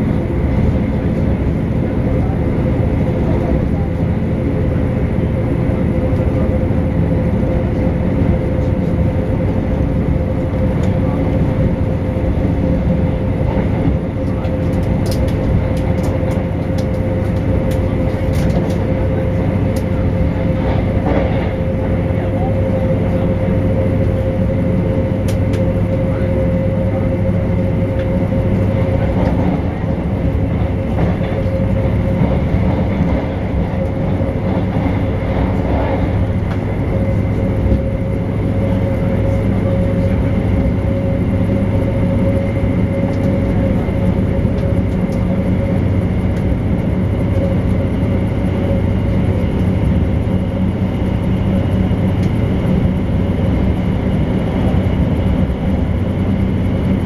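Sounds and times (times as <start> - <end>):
constant hum: 0.0 - 57.0
train wheels rumbling: 0.0 - 57.0.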